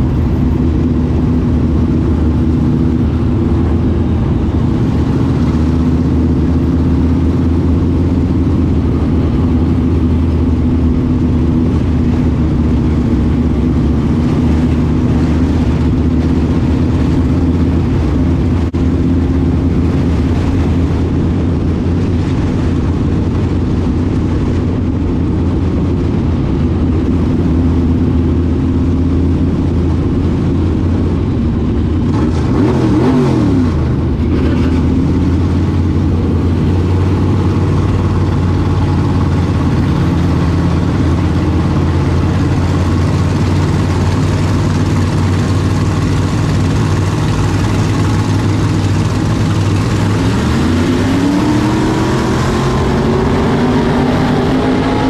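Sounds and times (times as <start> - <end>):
race car engine running: 0.0 - 55.0.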